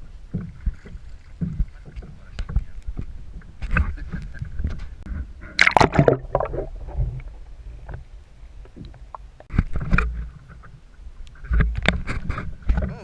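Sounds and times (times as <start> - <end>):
low steady rumble: 0.0 - 13.0
water splashing against a kayak: 0.0 - 13.0.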